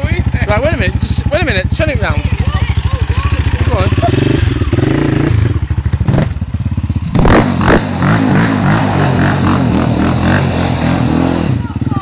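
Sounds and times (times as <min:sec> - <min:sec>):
quad bike engine revving: 0:00.0 - 0:12.0.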